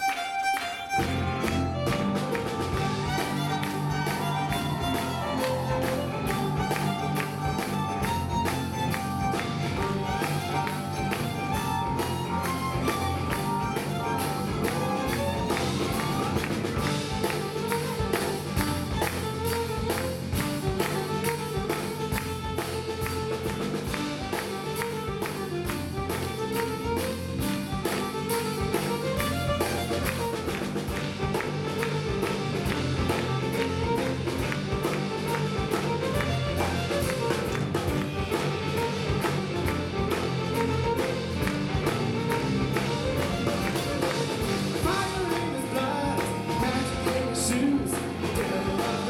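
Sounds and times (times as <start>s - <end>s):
bass guitar: 0.0s - 49.0s
drum kit beat: 0.0s - 49.0s
fiddle melody: 0.0s - 49.0s.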